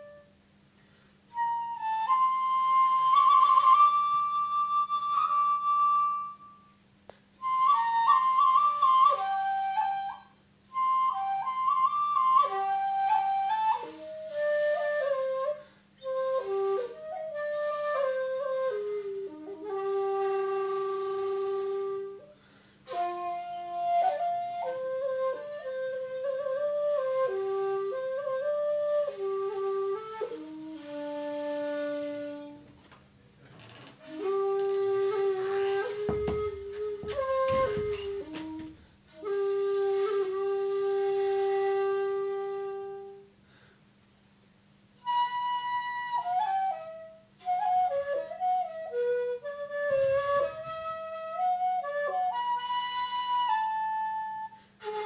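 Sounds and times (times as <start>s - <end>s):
bamboo flute melody: 0.0s - 0.5s, 1.2s - 6.8s, 7.4s - 32.8s, 34.0s - 43.4s, 45.0s - 55.0s.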